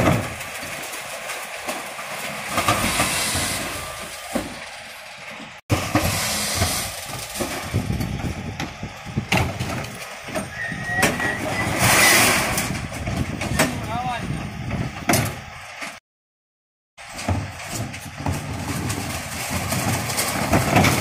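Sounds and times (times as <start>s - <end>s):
refuse truck running: 0.0s - 16.0s, 17.0s - 21.0s.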